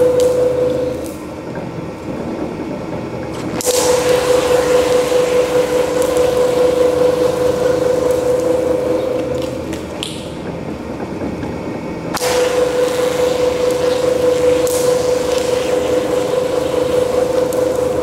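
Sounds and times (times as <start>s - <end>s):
rubber mill humming: 0.0s - 18.0s.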